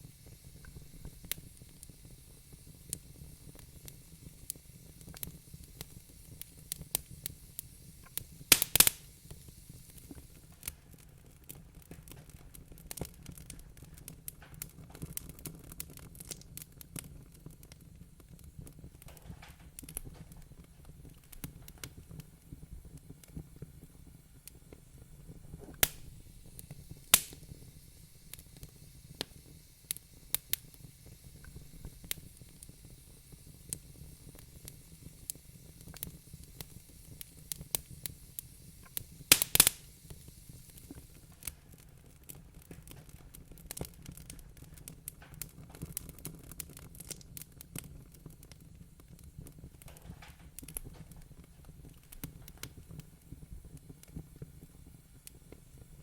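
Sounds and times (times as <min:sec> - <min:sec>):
fire popping and snapping: 0:00.0 - 0:56.0
wood fire crackling: 0:00.0 - 0:56.0.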